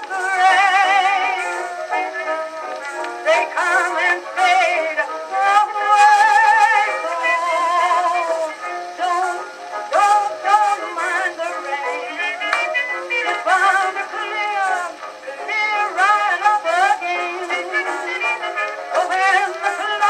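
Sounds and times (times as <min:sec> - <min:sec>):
small jazz band playing: 0:00.0 - 0:20.0
woman singing with vibrato: 0:00.0 - 0:20.0.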